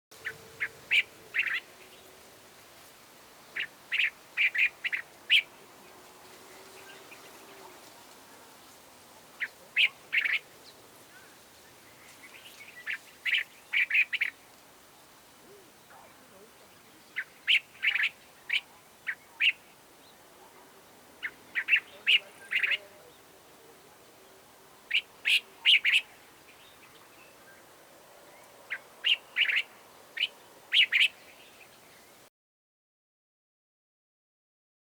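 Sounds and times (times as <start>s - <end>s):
bird calling: 0.2s - 2.2s, 3.5s - 8.5s, 9.4s - 14.4s, 15.4s - 32.2s.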